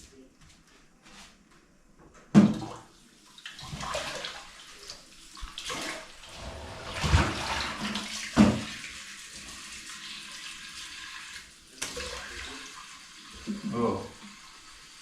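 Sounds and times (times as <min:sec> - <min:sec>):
water splashing into a sink: 0:02.3 - 0:15.0.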